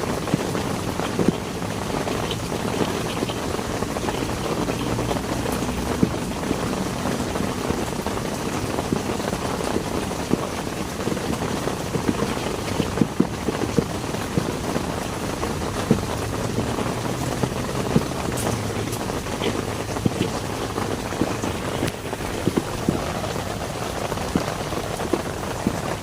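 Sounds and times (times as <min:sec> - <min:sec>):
heavy rain falling: 0:00.0 - 0:26.0
raindrops ticking on a surface: 0:00.0 - 0:26.0.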